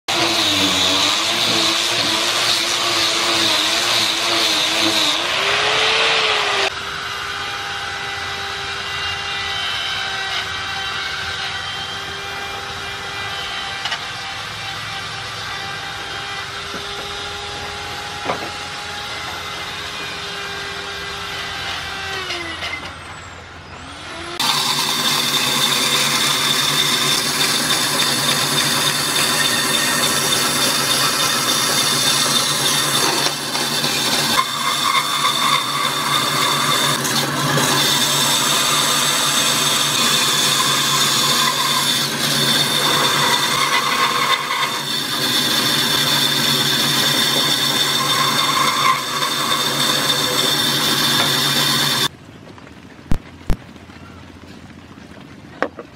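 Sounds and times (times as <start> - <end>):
band saw cutting wood: 0.0 - 23.1, 23.8 - 52.1.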